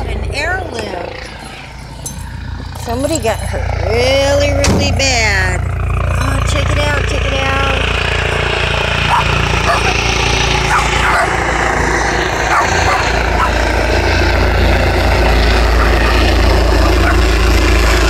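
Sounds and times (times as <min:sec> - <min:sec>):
helicopter rumble: 0:00.0 - 0:18.0.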